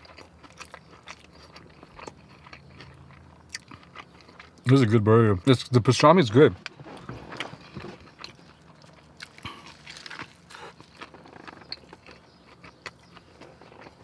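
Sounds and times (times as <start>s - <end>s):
person chewing food: 0.0s - 4.8s, 6.6s - 14.0s.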